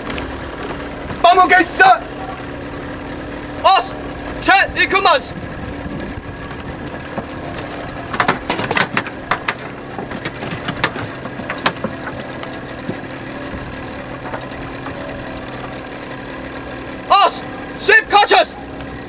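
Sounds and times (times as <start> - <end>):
motorboat engine idling: 0.0 - 19.0
oars knocking and clattering: 0.0 - 19.0.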